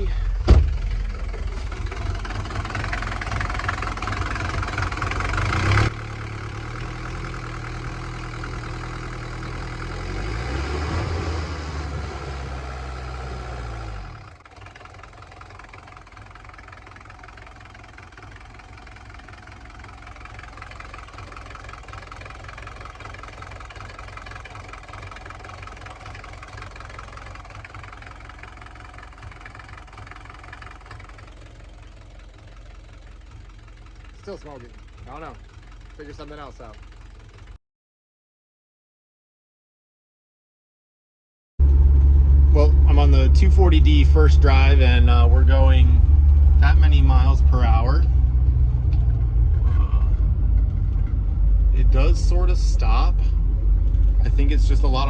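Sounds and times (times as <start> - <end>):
diesel engine running rough: 0.0 - 37.6, 41.6 - 55.0.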